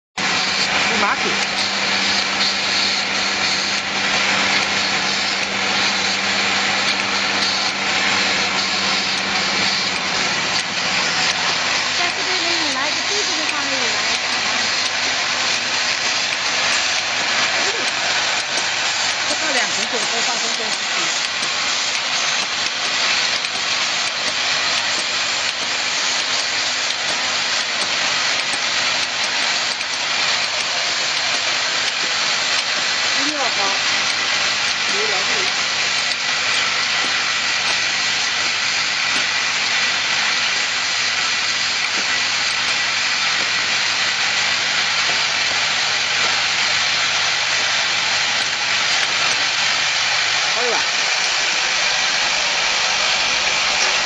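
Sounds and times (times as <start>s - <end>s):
machine whirring and humming: 0.2s - 54.0s.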